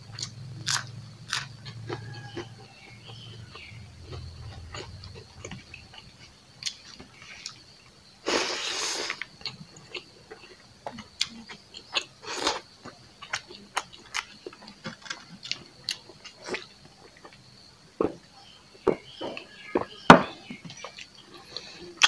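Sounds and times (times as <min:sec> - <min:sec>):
person chewing food: 0:00.1 - 0:19.9, 0:20.6 - 0:22.0.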